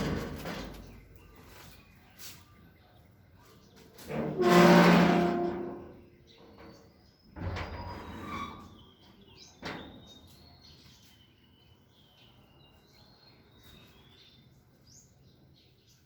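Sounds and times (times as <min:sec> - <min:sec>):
small birds chirping: 0:00.0 - 0:04.1, 0:05.8 - 0:16.0.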